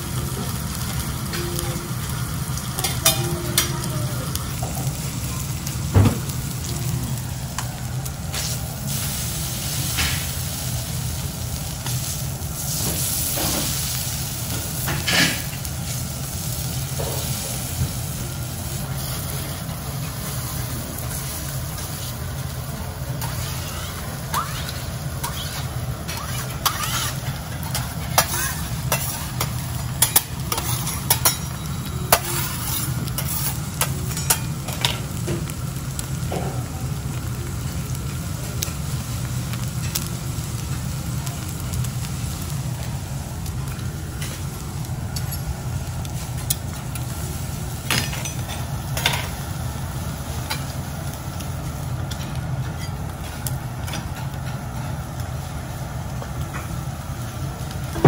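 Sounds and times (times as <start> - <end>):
meat searing on a griddle: 0.0 - 58.0.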